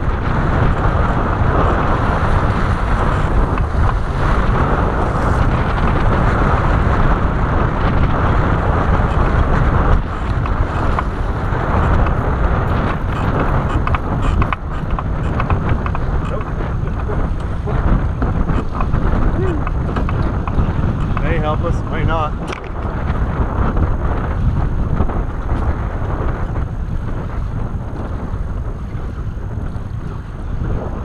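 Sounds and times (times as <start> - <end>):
water splashing around boat: 0.0 - 31.0
wind buffeting microphone: 0.0 - 31.0.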